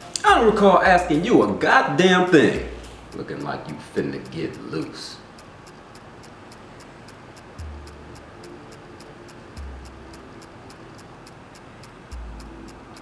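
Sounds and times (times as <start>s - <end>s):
fast ticking: 0.0s - 13.0s.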